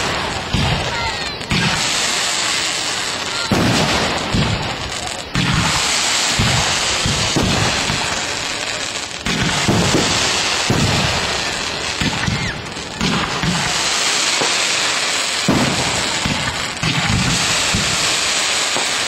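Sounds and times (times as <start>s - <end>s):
firework crackle: 0.0s - 19.0s
firework shells booming: 0.0s - 19.0s.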